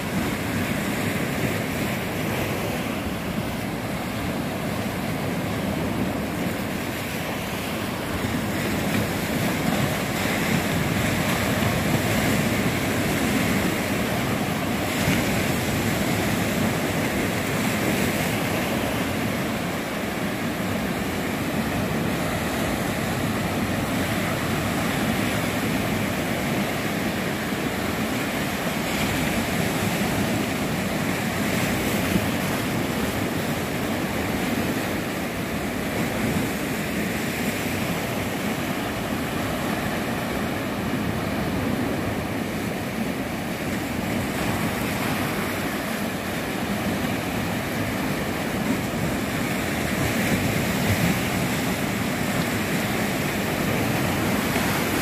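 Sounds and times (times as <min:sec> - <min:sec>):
small waves breaking in shallows: 0:00.0 - 0:55.0.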